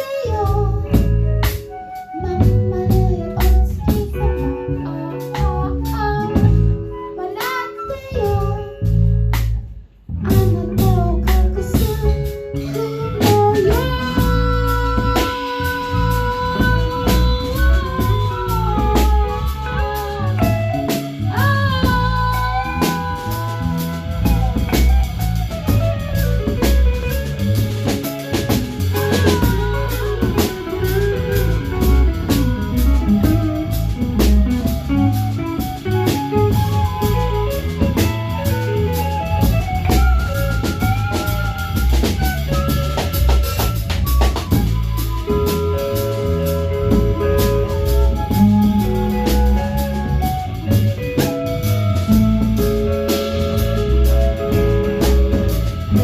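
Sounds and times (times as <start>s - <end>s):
deep bass line: 0.0s - 7.2s, 7.9s - 56.0s
drum kit beat: 0.0s - 56.0s
guitar: 0.0s - 56.0s.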